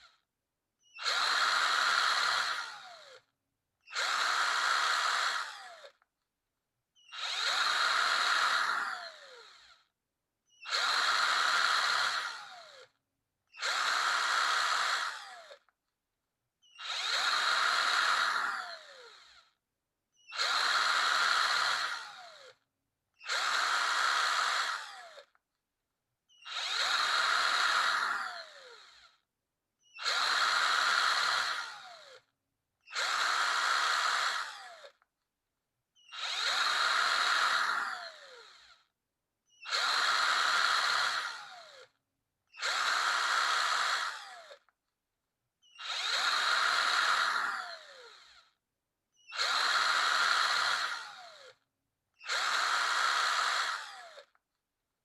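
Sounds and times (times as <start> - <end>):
electric drill whining: 0.8 - 6.1, 7.0 - 9.9, 10.5 - 15.8, 16.6 - 19.6, 20.2 - 25.4, 26.3 - 35.0, 36.0 - 38.9, 39.5 - 44.8, 45.6 - 48.6, 49.2 - 51.6, 52.2 - 54.4.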